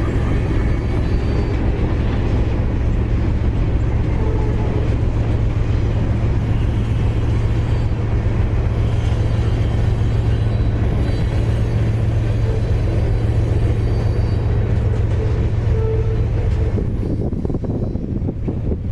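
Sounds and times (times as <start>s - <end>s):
diesel locomotive rumbling: 0.0s - 18.9s.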